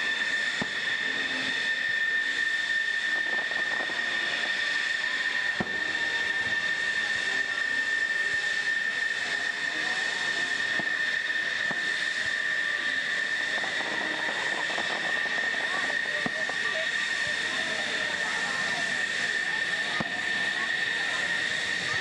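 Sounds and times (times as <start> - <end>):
jet engine whine: 0.0 - 22.0.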